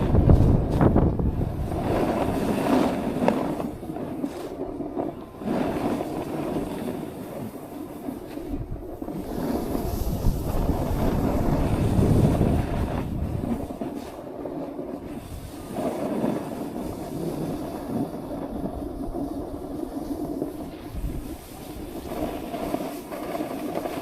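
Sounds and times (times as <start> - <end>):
snowboard scraping over snow: 0.0 - 24.0
wind on microphone: 0.0 - 24.0.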